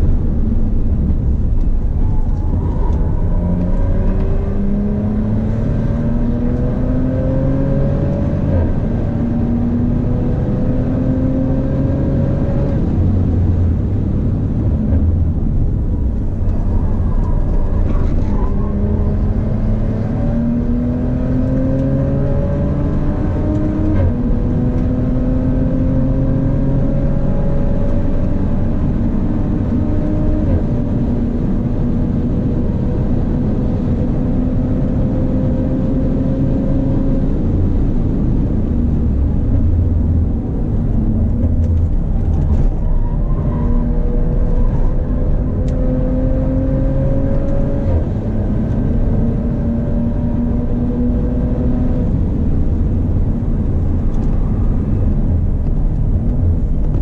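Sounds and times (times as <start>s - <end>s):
car engine accelerating hard: 0.0s - 57.0s
road and wind noise: 0.0s - 57.0s.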